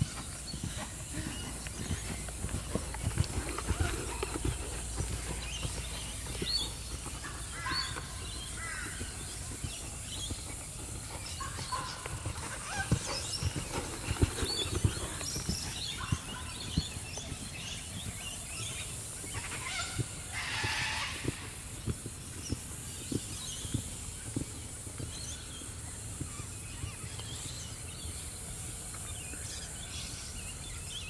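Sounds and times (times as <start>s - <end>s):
birds chirping: 0.0s - 31.0s
horse hooves in sand: 0.0s - 31.0s.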